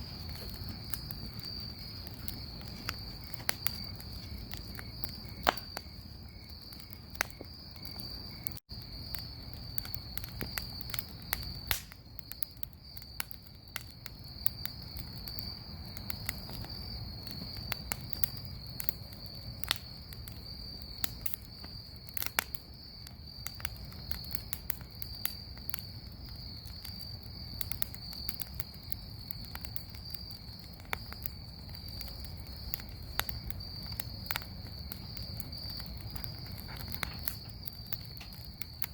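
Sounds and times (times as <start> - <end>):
bonfire crackling and popping: 0.0 - 38.9
insects trilling: 0.0 - 38.9.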